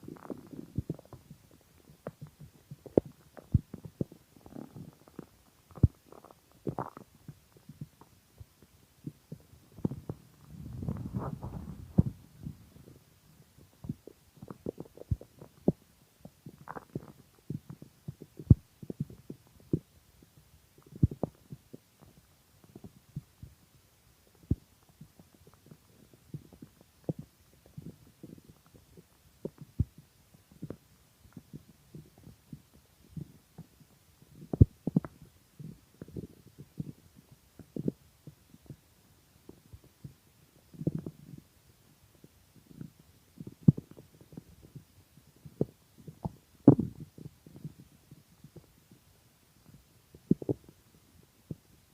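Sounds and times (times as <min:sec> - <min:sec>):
stomach growling and gurgling: 0:00.0 - 0:38.9, 0:39.5 - 0:51.8
low stomach rumble: 0:00.0 - 0:51.9.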